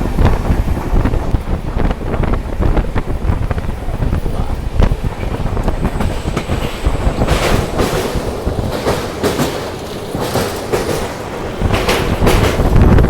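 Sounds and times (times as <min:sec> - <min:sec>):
train running on rails: 0:00.0 - 0:13.0
wheel clacks over rail joints: 0:00.0 - 0:13.0.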